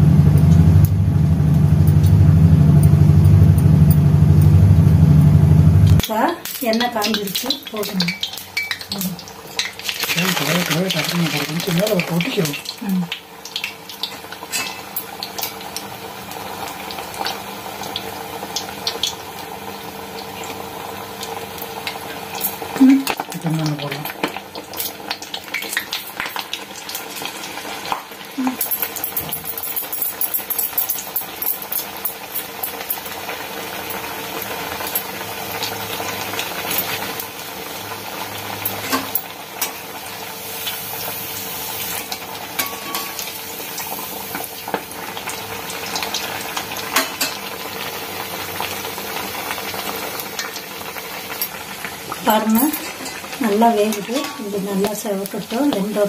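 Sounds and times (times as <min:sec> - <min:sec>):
food deep-frying in oil: 0:00.0 - 0:56.0.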